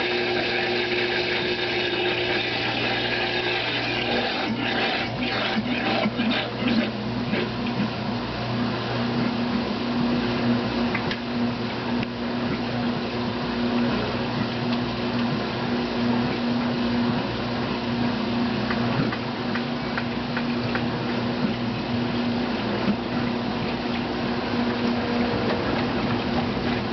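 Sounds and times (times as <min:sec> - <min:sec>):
washing machine motor hum: 0:00.0 - 0:26.9.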